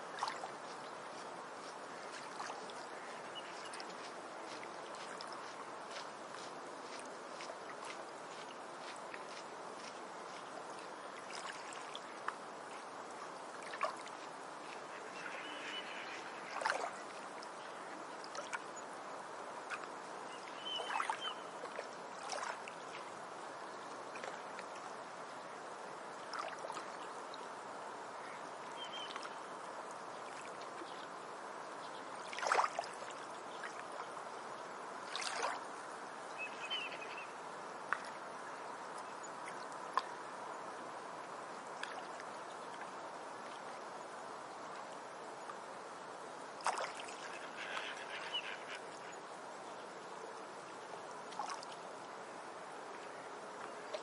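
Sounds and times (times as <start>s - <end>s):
small waves lapping and splashing: 0.0s - 54.0s
water washing at shoreline: 0.0s - 54.0s.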